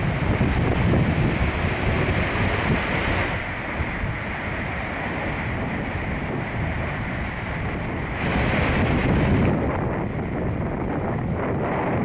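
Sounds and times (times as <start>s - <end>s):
surf breaking on shore: 0.0s - 12.0s
wind rumbling on microphone: 0.0s - 12.0s.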